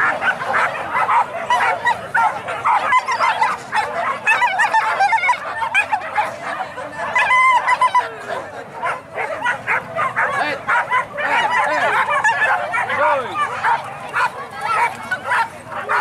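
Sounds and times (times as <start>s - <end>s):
dogs yelping and barking: 0.0s - 16.0s.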